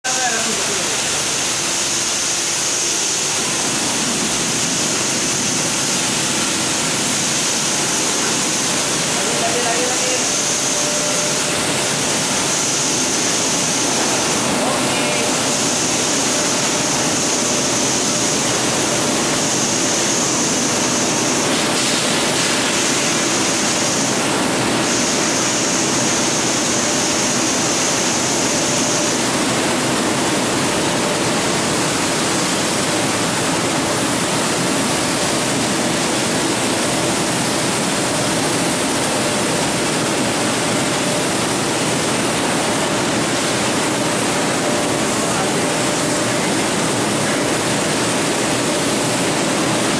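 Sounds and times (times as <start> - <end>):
high-pressure water spray rushing: 0.1 - 49.9.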